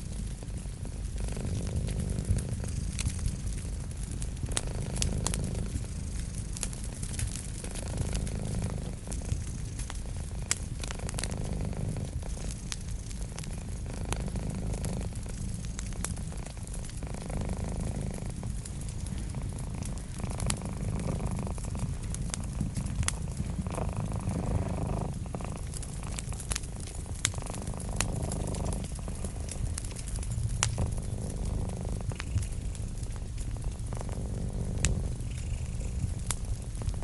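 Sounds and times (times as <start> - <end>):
cat purring: 0.0 - 37.0
wood fire crackling: 0.0 - 37.0.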